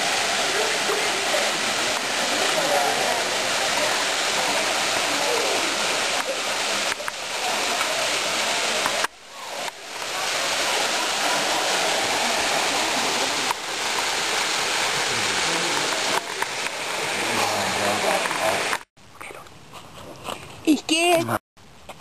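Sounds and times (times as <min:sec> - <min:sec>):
waterfall rushing over rock: 0:00.0 - 0:18.9.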